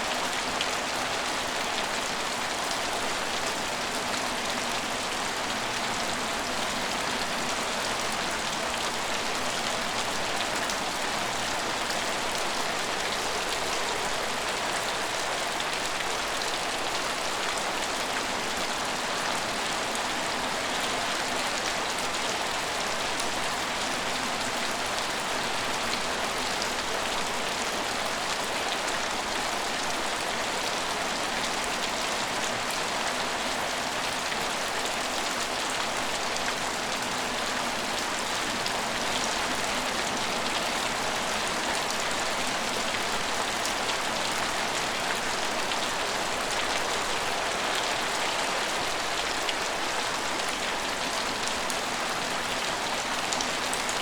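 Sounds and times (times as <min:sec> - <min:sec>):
rain on hard surfaces: 0:00.0 - 0:54.0.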